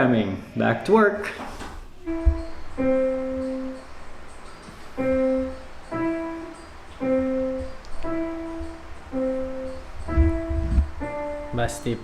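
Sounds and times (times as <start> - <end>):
piano notes alternating: 1.9 - 12.0.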